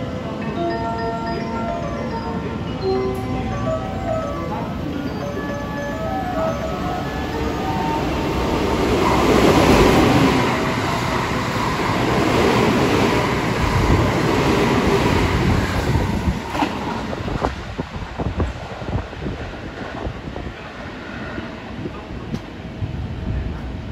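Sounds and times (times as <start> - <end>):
train passing at speed: 0.0 - 23.9.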